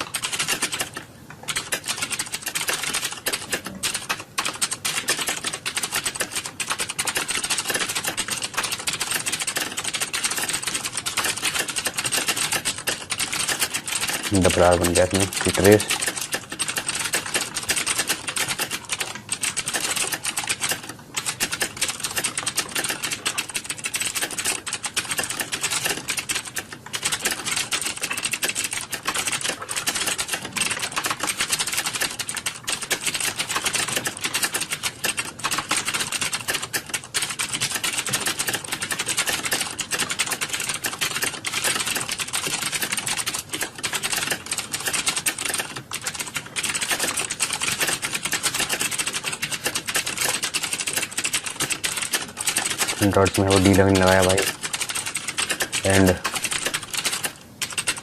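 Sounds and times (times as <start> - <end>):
fast typing on computer keyboard: 0.0 - 58.0.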